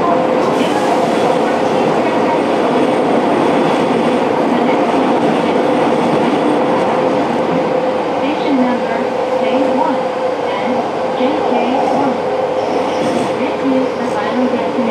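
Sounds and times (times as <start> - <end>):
train wheels on rail: 0.0 - 14.9.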